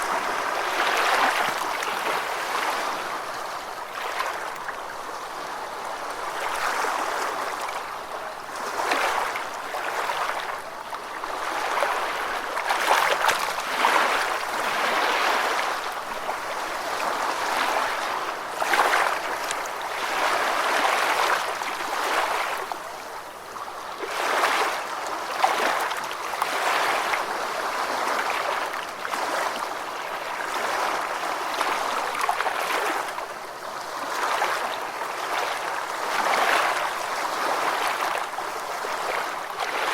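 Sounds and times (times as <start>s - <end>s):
ocean waves lapping: 0.0s - 39.9s.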